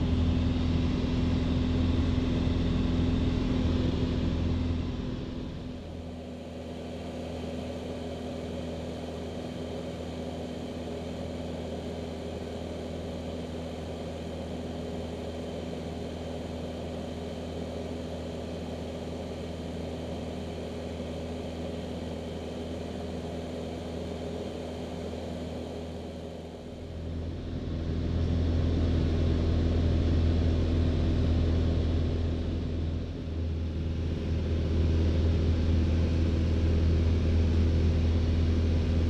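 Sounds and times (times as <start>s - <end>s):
light aircraft engine drone: 0.0s - 39.0s.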